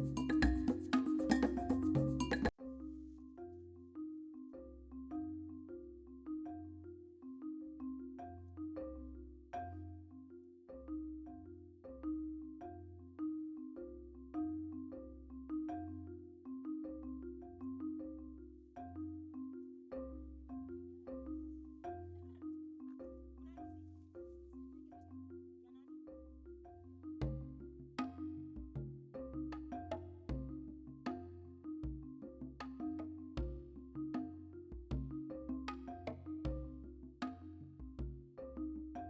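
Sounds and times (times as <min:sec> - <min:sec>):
gentle mallet tune with beat: 0:00.0 - 0:39.0.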